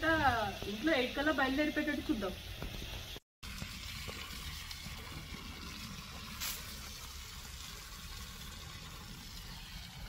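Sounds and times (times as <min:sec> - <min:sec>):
water spraying from hose: 0:00.0 - 0:10.0.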